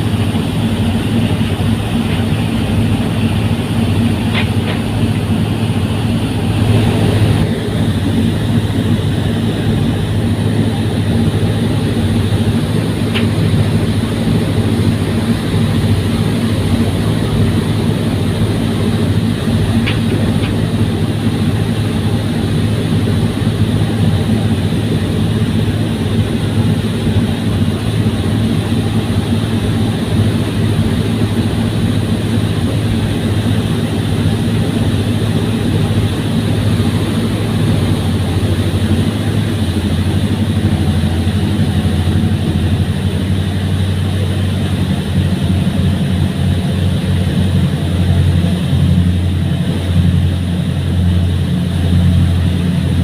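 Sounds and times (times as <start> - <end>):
ferry engines droning: 0.0 - 53.0.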